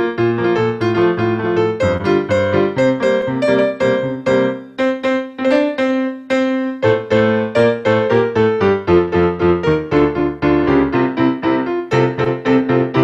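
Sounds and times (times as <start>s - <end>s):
solo piano: 0.0s - 13.0s.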